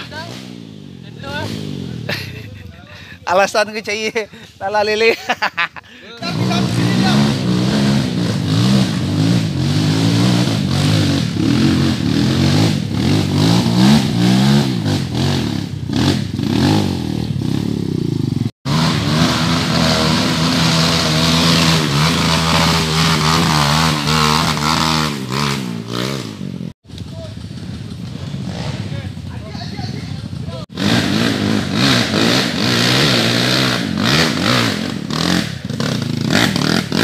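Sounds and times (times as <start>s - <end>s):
dirt bike engine revving: 0.0s - 2.6s, 5.9s - 37.0s
dirt bike engine running steadily: 6.4s - 37.0s.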